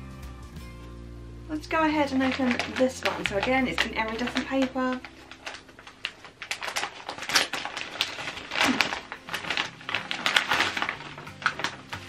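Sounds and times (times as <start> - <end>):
bubble wrap crackling: 1.5 - 12.0
gift wrap tearing and crinkling: 1.7 - 12.0.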